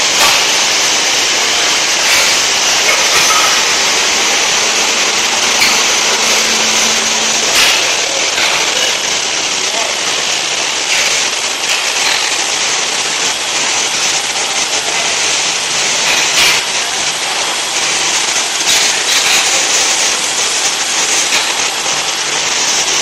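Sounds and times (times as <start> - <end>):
machine hissing: 0.0 - 23.0.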